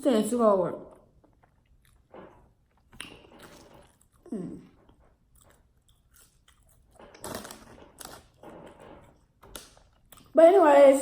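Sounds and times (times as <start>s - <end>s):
person chewing food: 1.0s - 10.4s.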